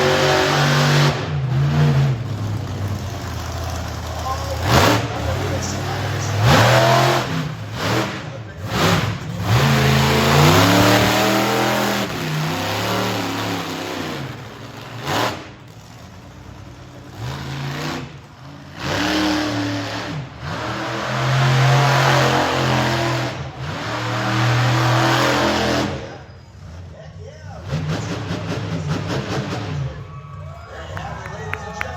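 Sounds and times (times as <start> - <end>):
truck engine revving: 0.0 - 30.1.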